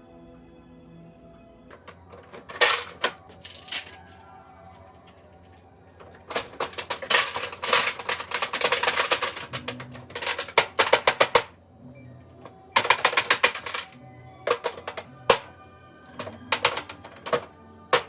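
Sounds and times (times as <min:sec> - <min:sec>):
rapid dense clicking: 0:01.7 - 0:18.0.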